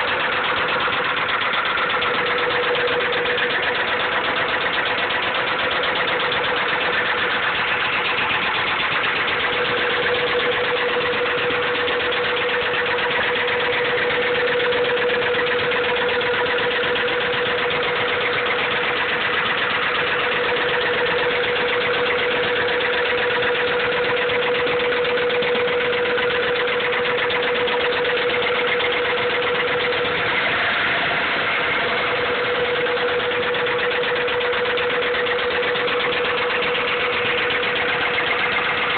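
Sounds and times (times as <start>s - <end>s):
engine running with fast knocking: 0.0s - 38.9s.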